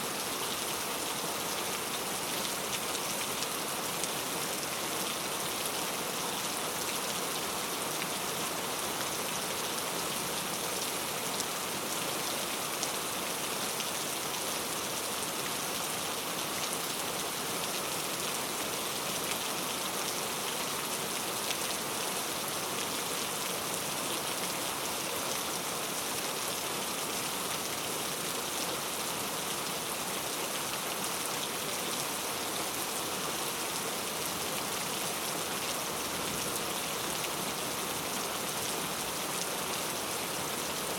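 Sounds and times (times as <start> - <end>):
heavy rain falling: 0.1 - 40.9.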